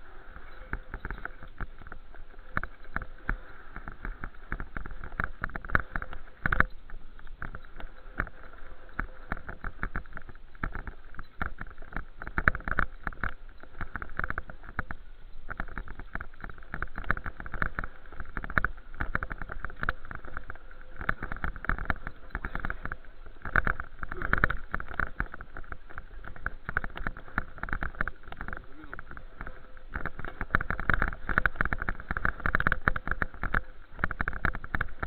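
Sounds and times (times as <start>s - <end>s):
bicycle rattling and knocking: 0.0s - 35.0s.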